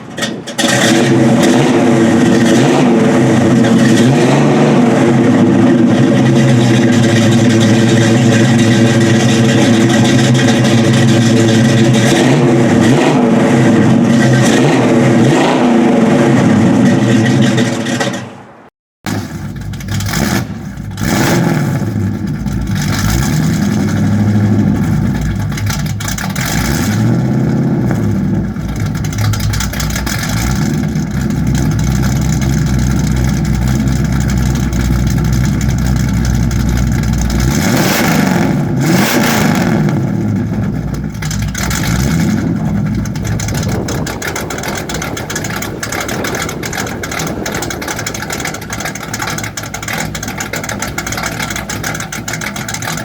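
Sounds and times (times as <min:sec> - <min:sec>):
engine exhaust rumbling and revving: 0:00.0 - 0:53.0.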